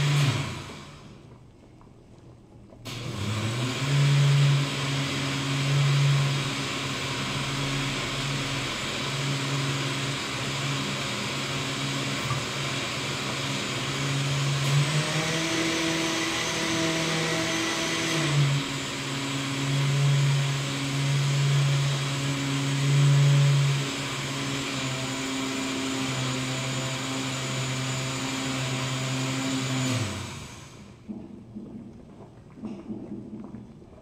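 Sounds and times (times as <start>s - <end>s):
blender motor running: 0.0s - 1.2s, 2.9s - 31.0s.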